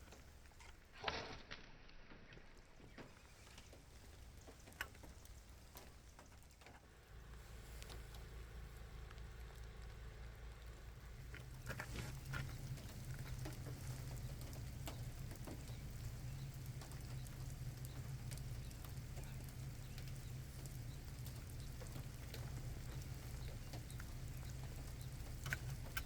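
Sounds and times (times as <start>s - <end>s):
raindrops ticking: 0.0s - 1.1s, 2.1s - 26.0s
steady low hum: 0.0s - 26.0s.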